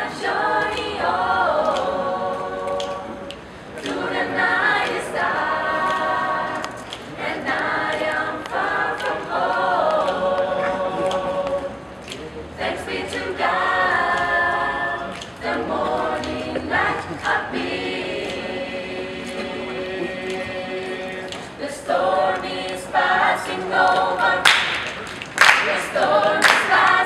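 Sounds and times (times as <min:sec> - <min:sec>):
women's choir singing in harmony: 0:00.0 - 0:27.0.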